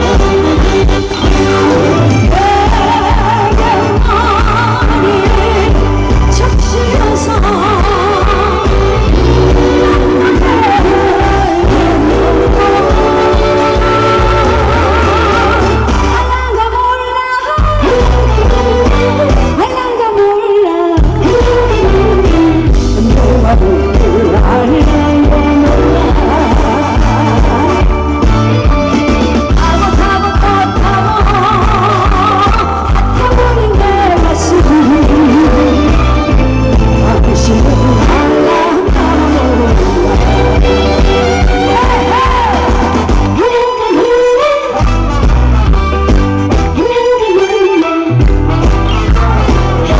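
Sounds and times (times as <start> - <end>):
woman singing into microphone: 1.2 - 28.0, 29.5 - 44.9, 46.7 - 48.2.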